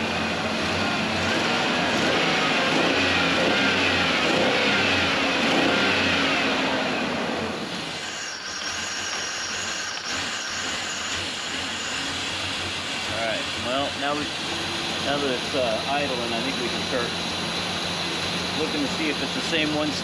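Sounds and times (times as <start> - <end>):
car engine running with misfire: 0.0 - 20.0.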